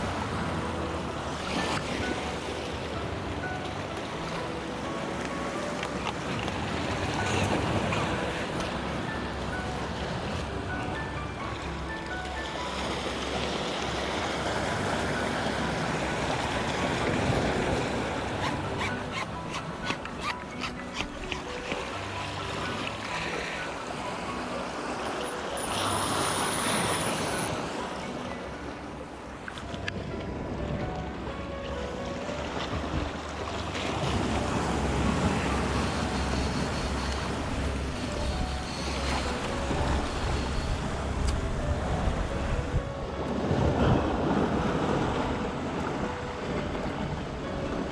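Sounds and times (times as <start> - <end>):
surf on rocky shore: 0.0 - 47.9.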